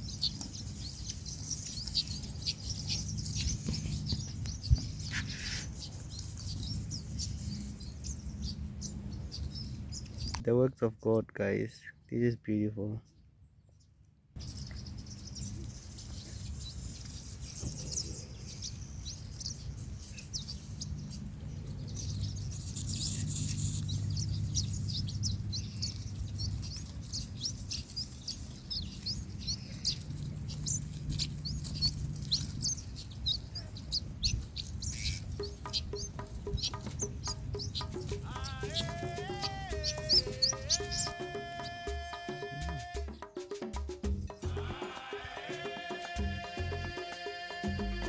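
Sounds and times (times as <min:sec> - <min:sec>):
wild birds chirping: 0:00.0 - 0:10.7, 0:11.9 - 0:43.6.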